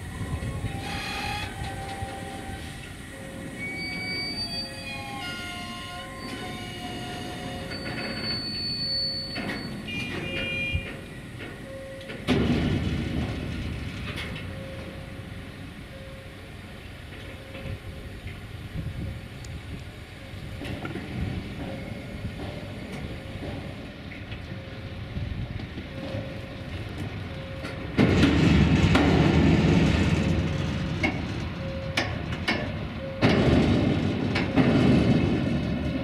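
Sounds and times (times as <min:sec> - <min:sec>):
train rolling rumble: 0:00.0 - 0:36.0
wheels clicking over rail joints: 0:00.0 - 0:36.0.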